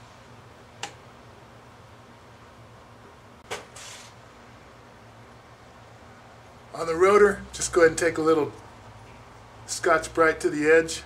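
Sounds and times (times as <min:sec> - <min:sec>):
faint low hum with hiss: 0:00.0 - 0:11.0.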